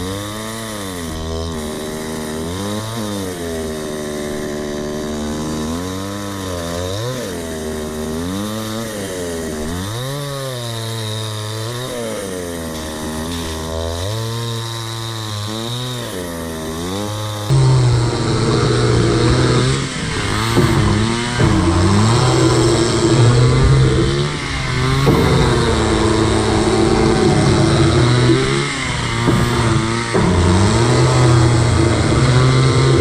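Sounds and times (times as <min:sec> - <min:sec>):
chainsaw cutting a log: 0:00.0 - 0:33.0.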